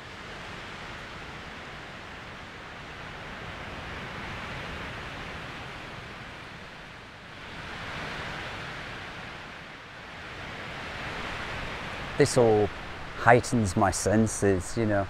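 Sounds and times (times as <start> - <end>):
storm wind through trees: 0.0 - 15.0.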